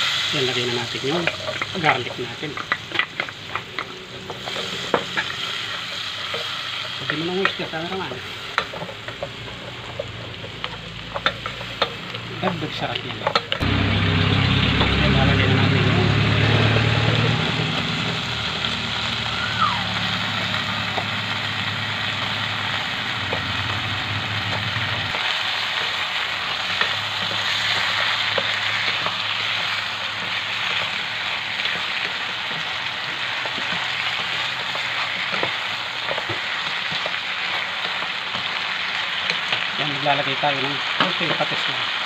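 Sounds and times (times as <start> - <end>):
garlic sizzling in butter: 0.0 - 42.0
shrimp sizzling in pot: 0.0 - 42.0.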